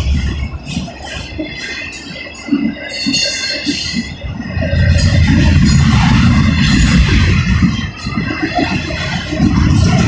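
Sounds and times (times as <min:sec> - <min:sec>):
train wheels clattering on rail: 0:00.0 - 0:10.0.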